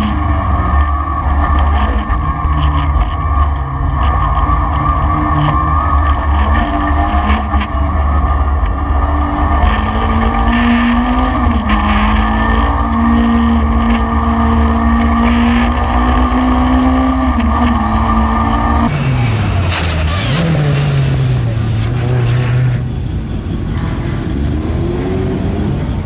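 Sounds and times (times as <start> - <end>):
race car engine from inside cabin: 0.0 - 26.0.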